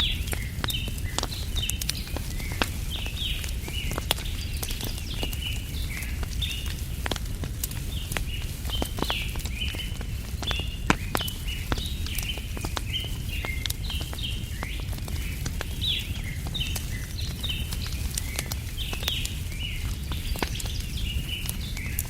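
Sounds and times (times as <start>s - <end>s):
small birds chirping: 0.0s - 22.0s
wood fire crackling and popping: 0.0s - 22.0s.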